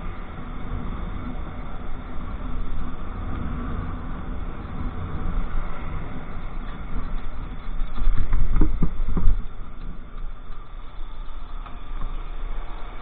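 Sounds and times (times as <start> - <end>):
road rumble: 0.0 - 13.0
wind noise on microphone: 0.0 - 13.0.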